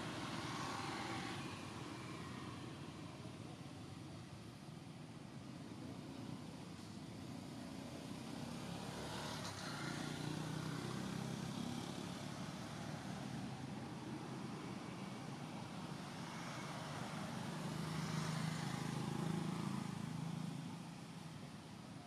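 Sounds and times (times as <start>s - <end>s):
distant traffic hum: 0.0s - 22.0s.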